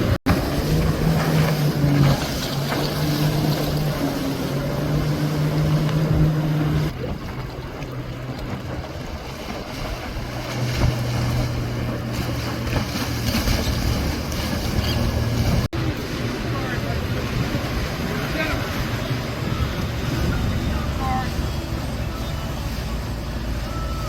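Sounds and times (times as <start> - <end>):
lower-pitched boat engine: 0.0 - 24.0
motorboat engines running: 0.0 - 24.0
water noise: 0.0 - 24.0
wind: 0.0 - 24.0.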